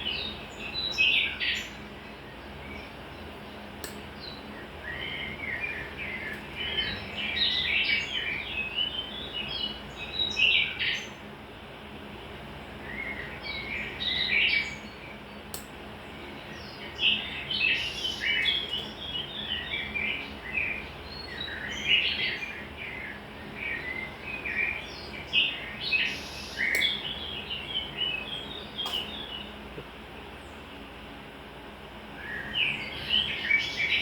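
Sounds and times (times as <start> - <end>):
small birds chirping: 0.0 - 31.2, 32.0 - 34.0.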